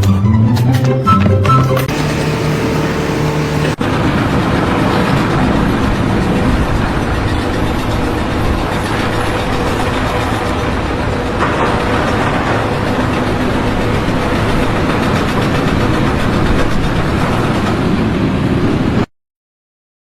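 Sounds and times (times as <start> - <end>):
heavy machine engine running: 1.4 - 19.1.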